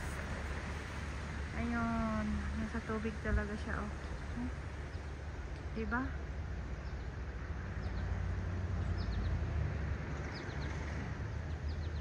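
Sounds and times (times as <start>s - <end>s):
songbird chirping: 1.6s - 12.0s.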